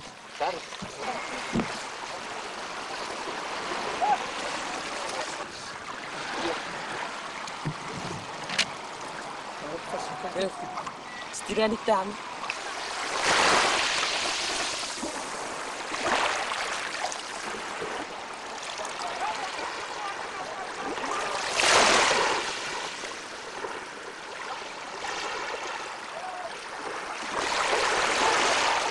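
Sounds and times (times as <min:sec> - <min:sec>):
water splashing along boat hull: 0:00.0 - 0:28.9.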